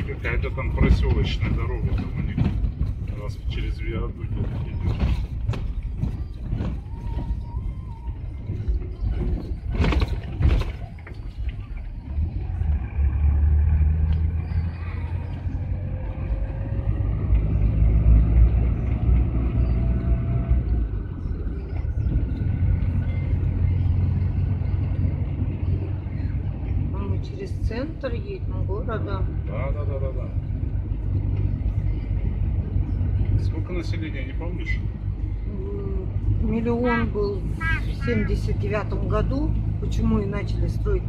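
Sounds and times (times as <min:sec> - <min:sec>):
van engine and road noise: 0:00.0 - 0:41.0.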